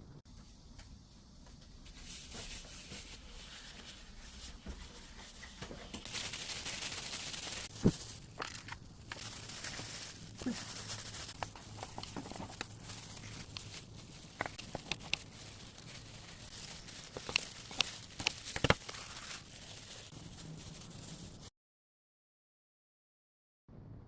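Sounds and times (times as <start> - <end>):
crinkling: 1.8 - 21.5.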